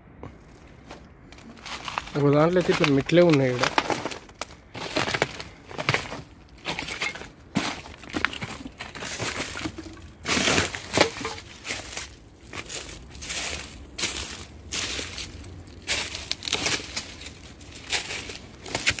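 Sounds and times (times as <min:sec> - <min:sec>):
footsteps on dry leaves: 0:00.2 - 0:19.0.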